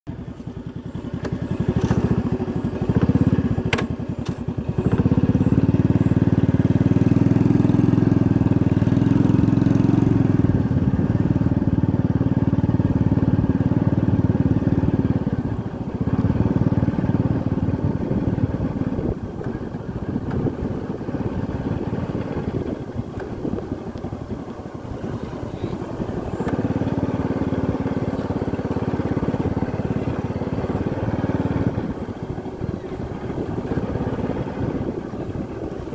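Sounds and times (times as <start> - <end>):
motorcycle engine running: 0.1 - 35.9.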